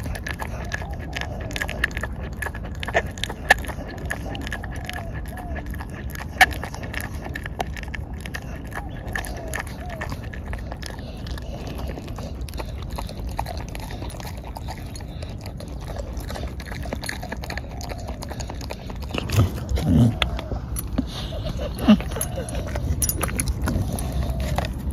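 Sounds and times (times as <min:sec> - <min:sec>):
dog crunching on bone: 0:00.0 - 0:24.9.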